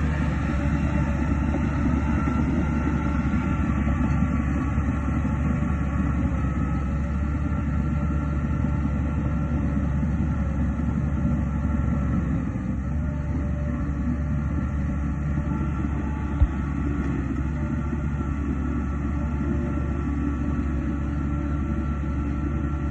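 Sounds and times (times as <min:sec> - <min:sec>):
diesel engine rumbling: 0:00.0 - 0:22.9.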